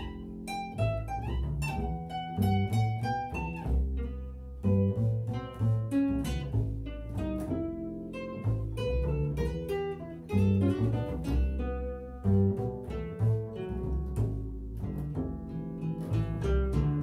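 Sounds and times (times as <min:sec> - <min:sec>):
pizzicato double bass: 0:00.0 - 0:17.0
plucked classical guitar: 0:00.0 - 0:17.0.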